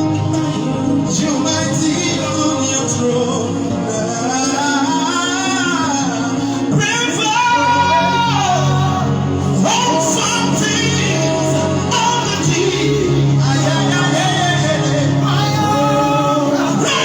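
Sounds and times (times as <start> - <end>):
person singing: 0.0 - 17.0
sustained instrumental backing: 0.0 - 17.0.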